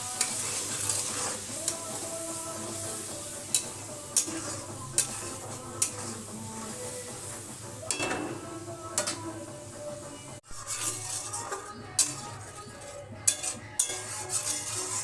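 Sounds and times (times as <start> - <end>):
metal spoon scraping a pan: 0.0 - 9.8, 10.4 - 15.0
background music: 0.0 - 15.0.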